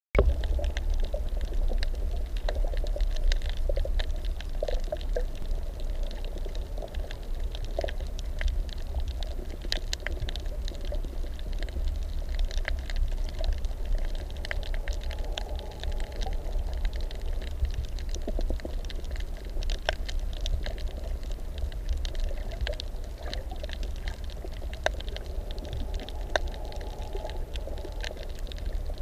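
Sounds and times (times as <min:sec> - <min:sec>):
low rumble of moving water: 0:00.2 - 0:29.0
sharp clicks and crackles: 0:00.2 - 0:29.0.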